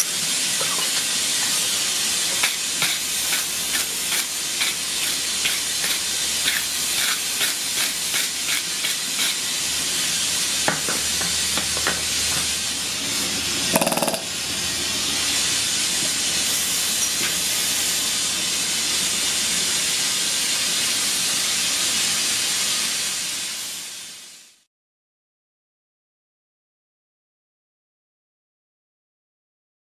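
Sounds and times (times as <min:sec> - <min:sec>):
steady loud hiss: 0:00.0 - 0:24.7.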